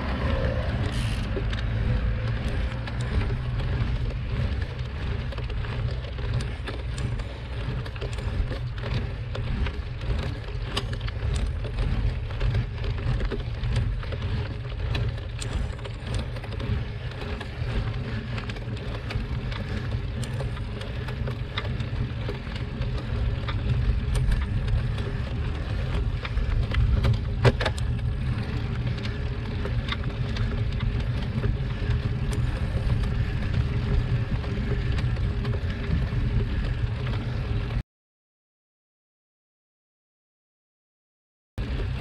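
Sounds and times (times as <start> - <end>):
bicycle clicks and rattles: 0.0 - 37.8, 41.6 - 42.0
bicycle ride rumble: 0.0 - 37.8, 41.6 - 42.0.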